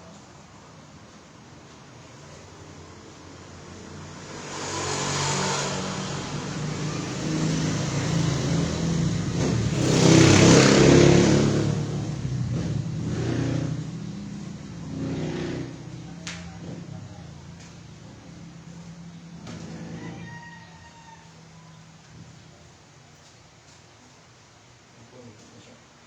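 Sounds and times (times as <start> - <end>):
vehicle engine: 0.0 - 22.7.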